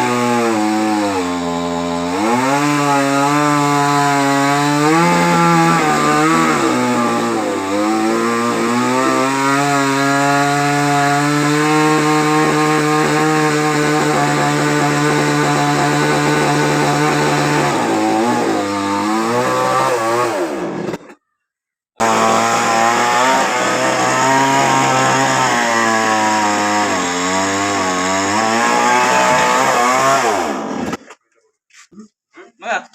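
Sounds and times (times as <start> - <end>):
chainsaw cutting at high revs: 0.0 - 21.1, 22.0 - 31.0.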